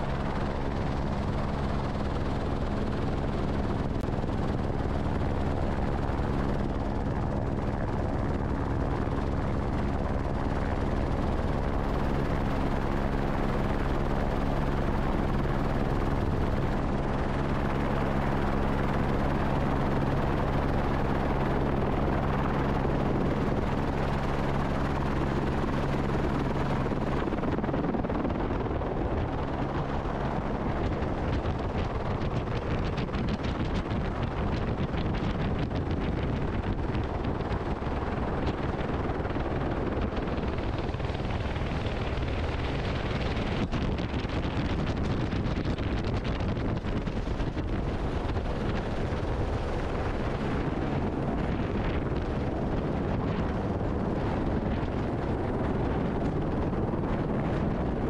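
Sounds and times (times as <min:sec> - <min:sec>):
helicopter rotor and turbine: 0:00.0 - 0:58.0
wind on microphone: 0:00.0 - 0:58.0.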